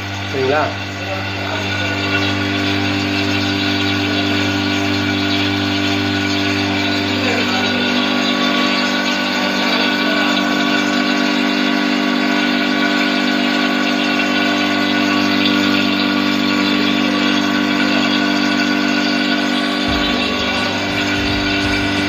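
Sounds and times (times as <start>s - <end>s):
vacuum pump humming: 0.0s - 22.0s.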